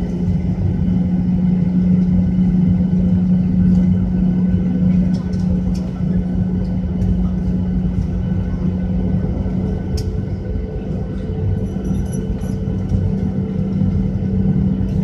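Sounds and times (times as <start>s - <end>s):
jet cabin rumble and engine hum: 0.0s - 15.0s.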